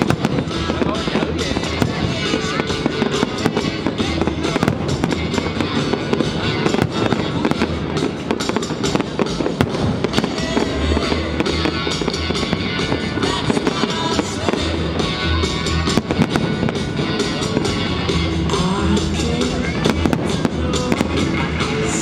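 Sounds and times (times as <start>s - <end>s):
low booms: 0.0s - 21.9s
fireworks bangs and crackling: 0.0s - 22.0s
loud music: 0.0s - 22.0s.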